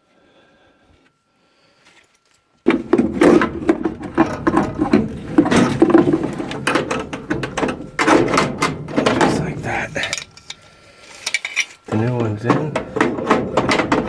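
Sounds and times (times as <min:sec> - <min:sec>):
sheet metal clattering: 0:02.7 - 0:14.0.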